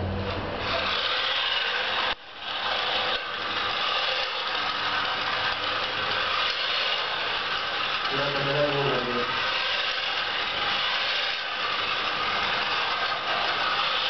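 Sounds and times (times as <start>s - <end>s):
small electric motors whirring: 0.3s - 14.0s.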